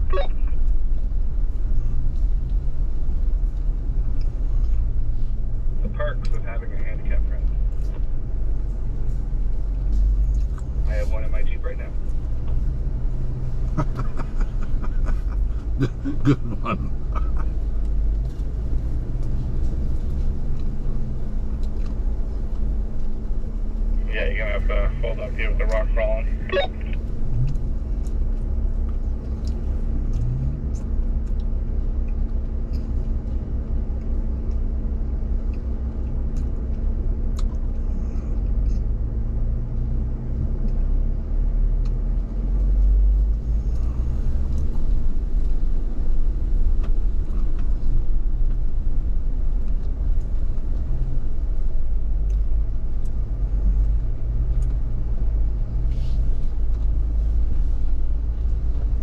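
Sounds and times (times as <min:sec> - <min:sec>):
vehicle engine low rumble: 0:00.0 - 0:59.0.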